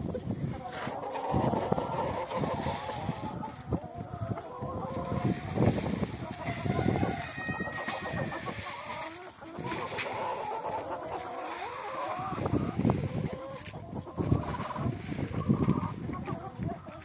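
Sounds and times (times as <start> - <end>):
hens and roosters clucking: 0.0 - 17.0.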